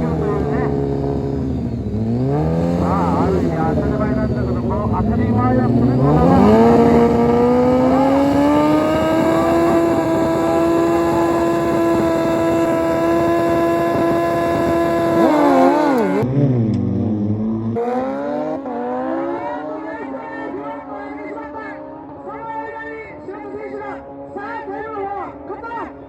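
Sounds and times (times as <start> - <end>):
motorcycle engine revving high: 0.0 - 26.0.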